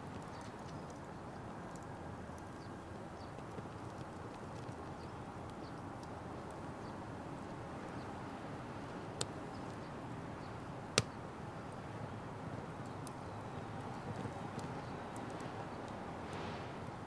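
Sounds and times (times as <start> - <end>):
firewood burning: 0.1 - 17.0.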